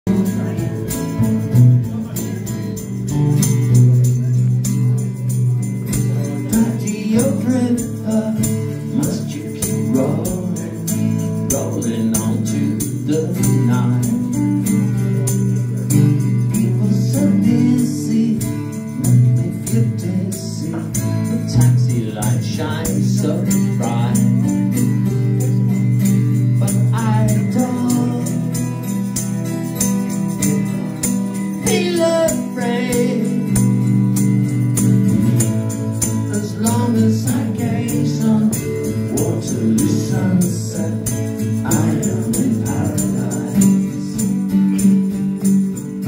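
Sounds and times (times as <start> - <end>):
strummed guitar: 0.0 - 46.0
man singing: 0.1 - 3.0, 5.9 - 28.9, 31.5 - 33.9, 36.0 - 46.0.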